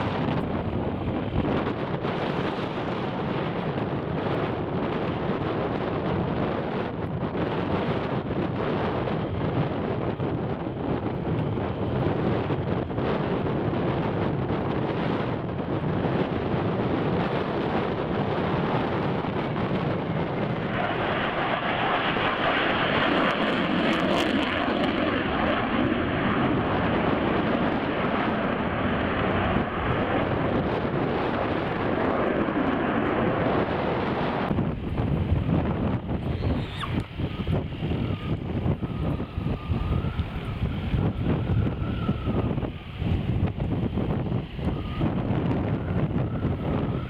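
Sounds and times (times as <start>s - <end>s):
aircraft engine running: 0.0s - 47.0s.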